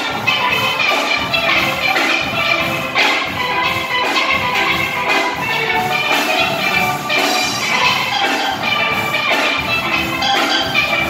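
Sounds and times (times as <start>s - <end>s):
drum kit beat: 0.0s - 11.0s
steel band playing: 0.0s - 11.0s.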